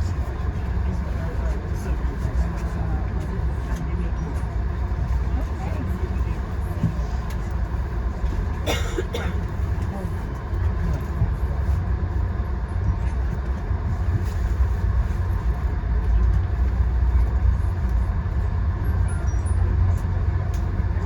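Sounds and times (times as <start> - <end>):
passenger train rumbling: 0.0 - 21.0.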